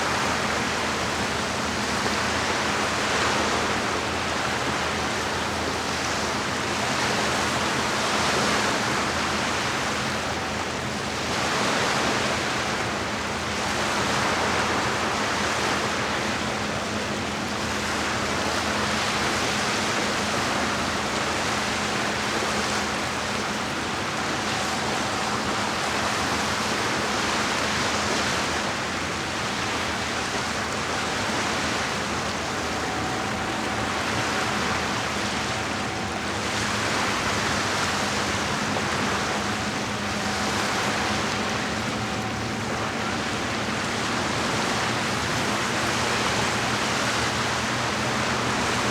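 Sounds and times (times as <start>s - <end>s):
lake water washing against shore: 0.0s - 48.9s.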